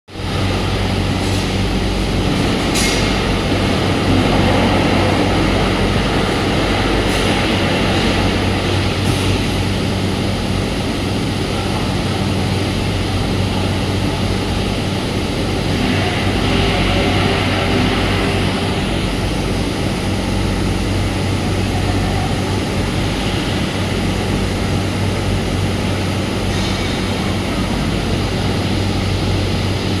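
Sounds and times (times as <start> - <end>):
machinery droning: 0.2 - 30.0.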